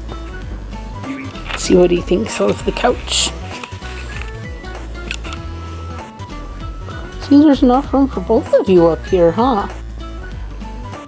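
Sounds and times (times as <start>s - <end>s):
background music with bass: 0.0s - 11.0s.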